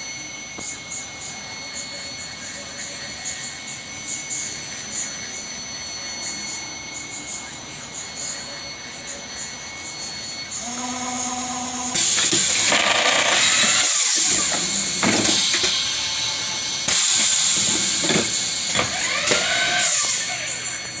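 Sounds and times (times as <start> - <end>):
loud hissing machine noise: 0.0 - 21.0
milling machine whine: 0.0 - 21.0.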